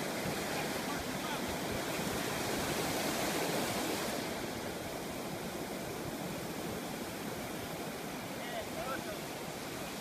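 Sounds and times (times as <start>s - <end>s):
ocean surf washing onto beach: 0.0s - 10.0s.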